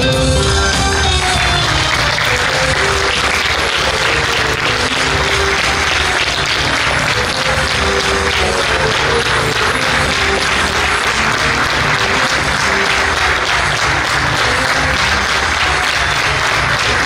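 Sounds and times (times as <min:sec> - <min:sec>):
music playing: 0:00.0 - 0:17.0
audience applauding: 0:00.5 - 0:17.0.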